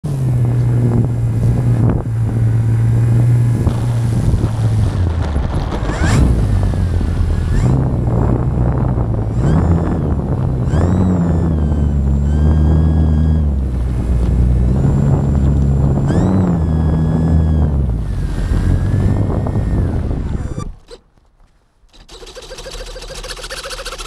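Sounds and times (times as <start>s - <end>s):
wind rush: 0.2s - 21.0s
model airplane motor humming: 0.4s - 21.1s, 21.9s - 24.0s.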